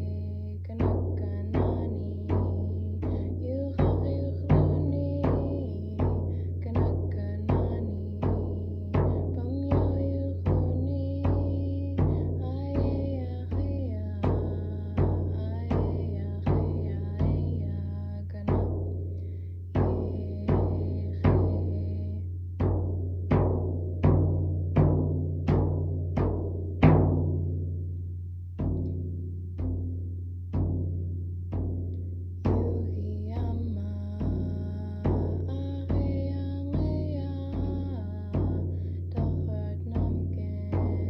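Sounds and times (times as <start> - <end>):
frame drum beaten with a wand: 0.0 - 41.0.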